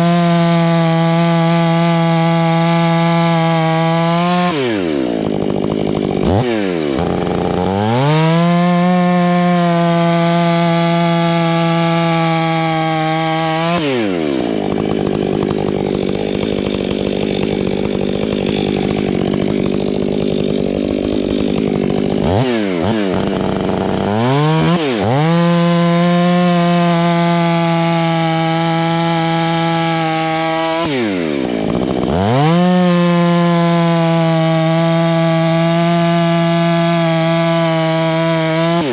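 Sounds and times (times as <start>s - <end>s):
chainsaw cutting through wood: 0.0s - 38.9s
chainsaw revving: 0.0s - 38.9s.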